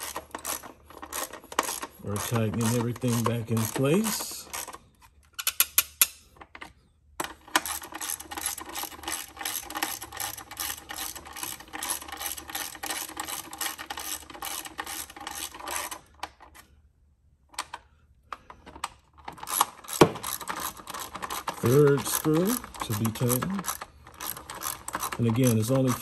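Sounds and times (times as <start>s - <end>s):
ratchet clicking: 0.0s - 6.2s, 7.2s - 16.0s, 19.2s - 26.0s.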